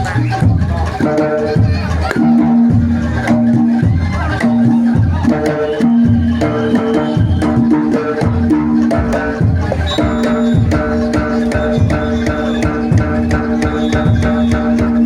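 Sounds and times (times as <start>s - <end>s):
gamelan drums and gongs: 0.0s - 15.0s.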